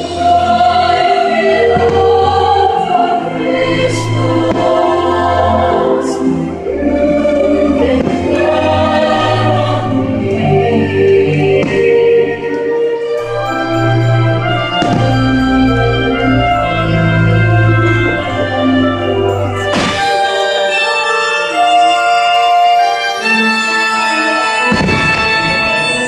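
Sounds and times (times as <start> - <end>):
choir singing held notes: 0.0 - 26.0
musical backing: 0.0 - 26.0.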